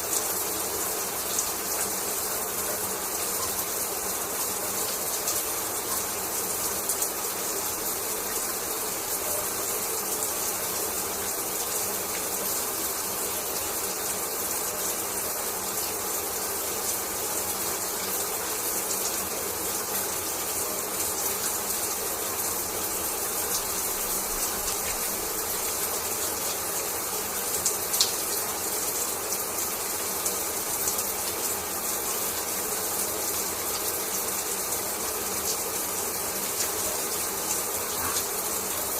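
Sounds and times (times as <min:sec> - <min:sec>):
shower water running: 0:00.0 - 0:38.9.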